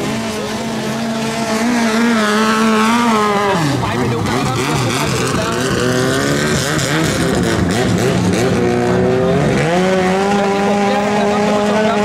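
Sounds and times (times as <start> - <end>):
boat engine running hard: 0.0 - 12.0.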